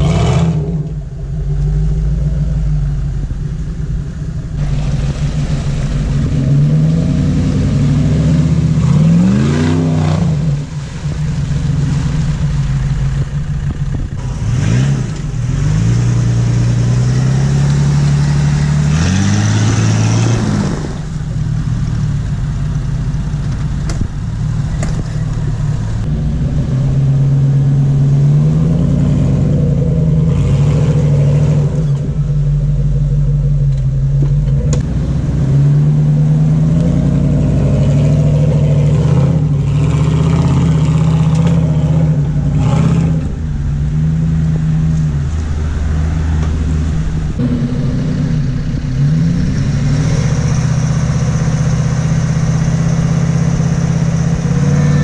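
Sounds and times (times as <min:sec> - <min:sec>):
suv engines labouring uphill: 0:00.0 - 0:55.0.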